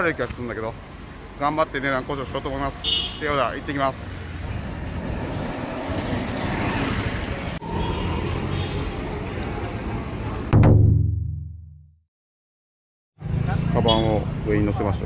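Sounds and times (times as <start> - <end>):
street traffic: 0.0 - 10.6, 13.2 - 15.0.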